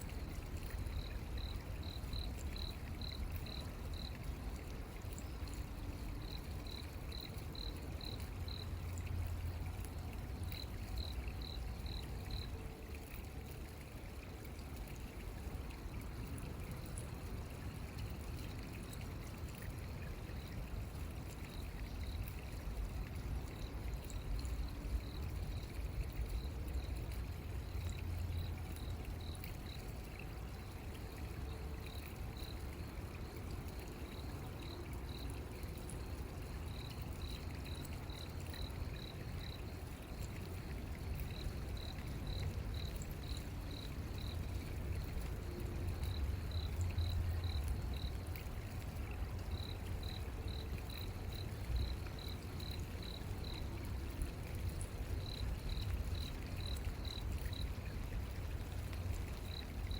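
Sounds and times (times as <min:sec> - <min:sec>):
water flowing in a stream: 0:00.0 - 0:59.9.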